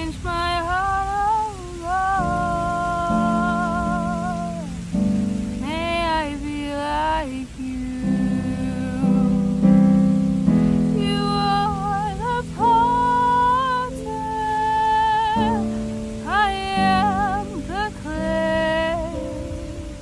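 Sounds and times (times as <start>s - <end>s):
person singing with vibrato: 0.0s - 20.0s.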